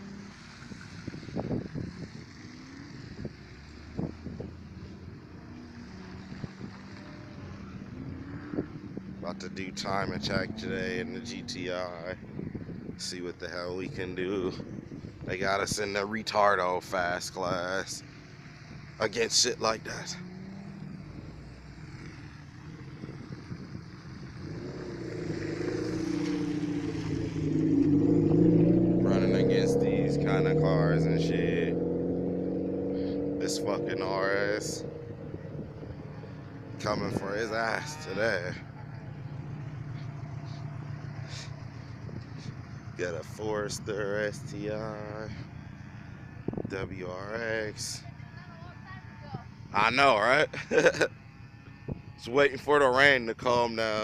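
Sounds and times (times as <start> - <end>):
car engine idling: 0.0 - 31.7, 32.7 - 54.0.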